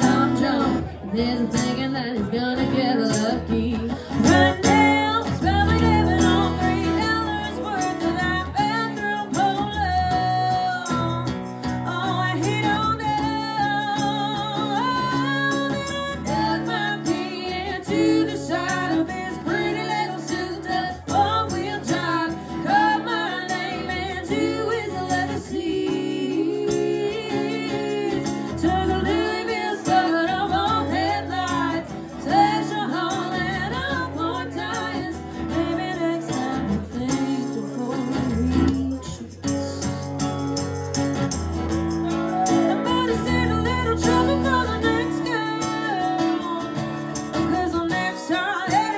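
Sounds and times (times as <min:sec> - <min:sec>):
guitar melody: 0:00.0 - 0:48.9.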